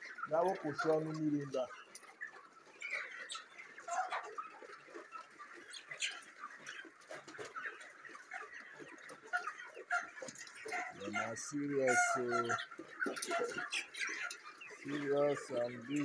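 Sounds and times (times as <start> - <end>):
chickens cheeping and clucking: 0.0 - 16.0.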